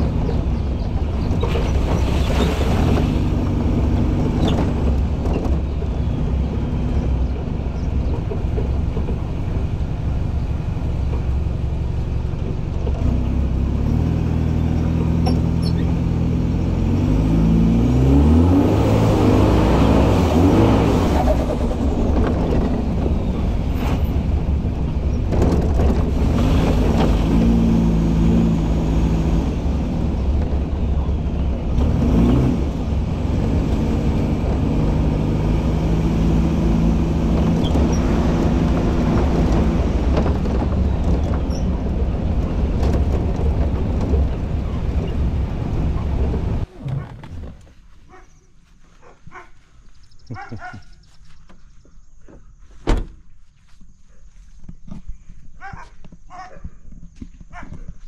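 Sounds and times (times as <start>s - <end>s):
vehicle engine running: 0.0s - 52.8s.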